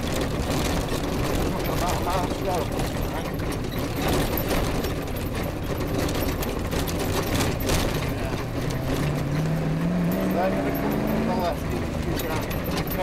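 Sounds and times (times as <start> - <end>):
bodywork rattling and knocking: 0.0 - 13.0
car engine under load: 0.0 - 13.0.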